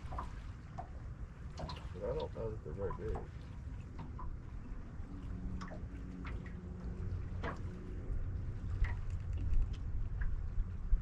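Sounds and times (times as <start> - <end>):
faint splashes: 0.0 - 11.0
water lapping against boat hull: 0.0 - 11.0
wind rumbling on microphone: 0.0 - 11.0.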